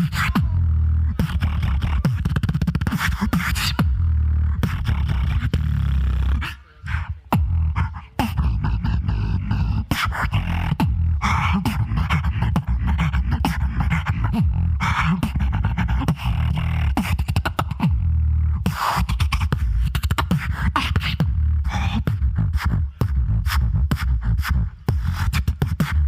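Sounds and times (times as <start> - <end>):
person beatboxing: 0.0 - 26.0.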